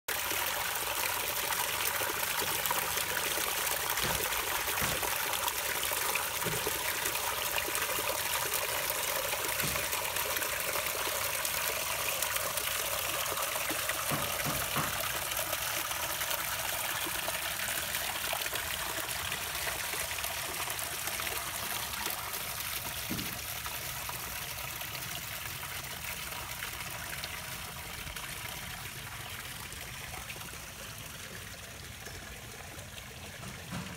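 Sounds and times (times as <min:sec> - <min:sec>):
water splashing over rocks: 0:00.1 - 0:27.3.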